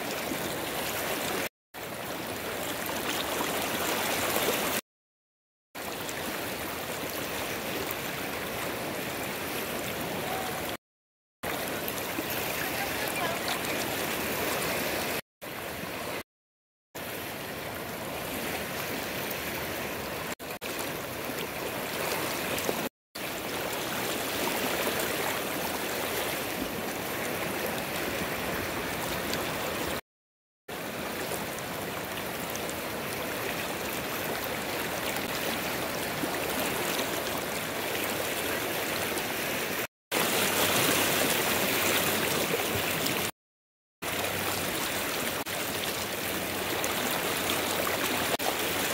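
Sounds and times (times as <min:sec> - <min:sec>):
river water rushing: 0:00.0 - 0:04.8, 0:05.8 - 0:10.8, 0:11.5 - 0:16.2, 0:17.0 - 0:30.0, 0:30.7 - 0:43.4, 0:44.0 - 0:48.9.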